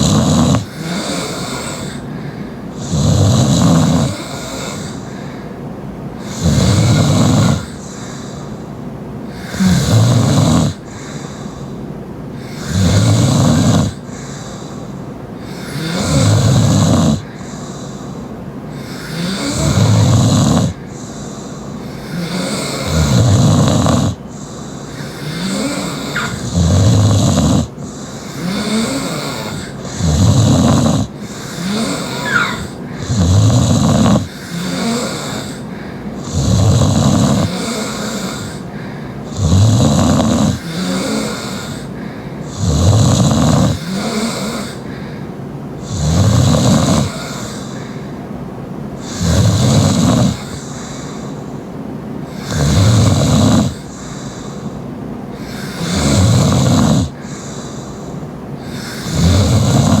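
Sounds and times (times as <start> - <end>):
girl snoring loudly: 0.0 - 5.3, 6.2 - 8.4, 9.3 - 11.5, 12.4 - 14.7, 15.4 - 18.0, 18.7 - 45.1, 45.8 - 47.9, 49.0 - 51.2, 52.2 - 54.5, 55.4 - 60.0.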